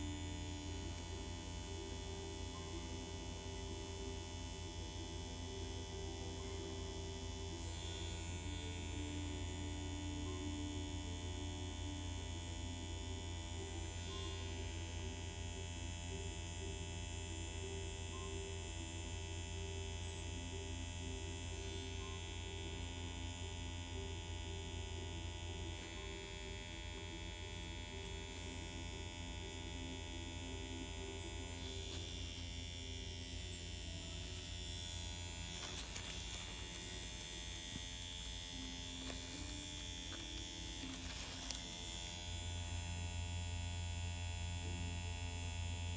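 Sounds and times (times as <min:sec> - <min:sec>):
pen machine electric buzz: 0:00.0 - 0:45.9.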